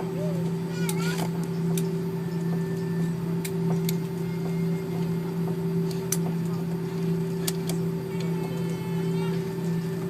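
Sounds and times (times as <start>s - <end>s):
aircraft cabin drone: 0.0s - 10.0s.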